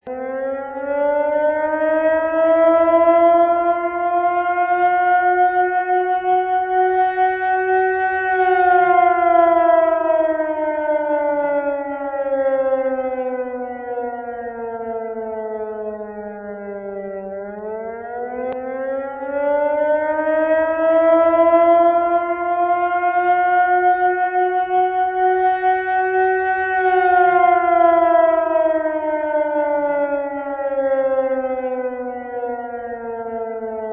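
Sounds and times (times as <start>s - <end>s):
air raid siren wailing: 0.0s - 33.9s.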